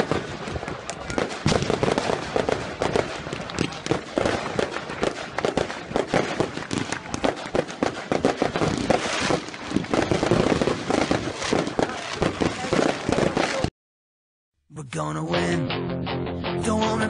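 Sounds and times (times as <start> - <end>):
firecrackers banging: 0.0 - 13.7.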